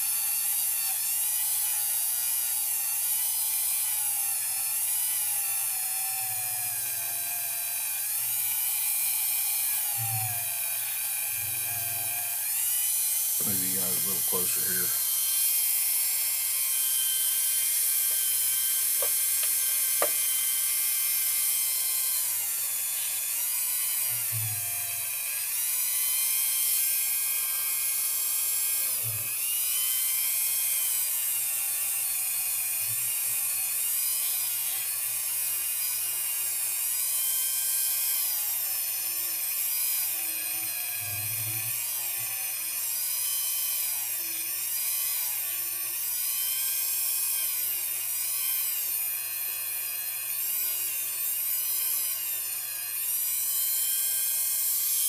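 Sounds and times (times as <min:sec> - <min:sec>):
rotary tool high whine: 0:00.0 - 0:55.0.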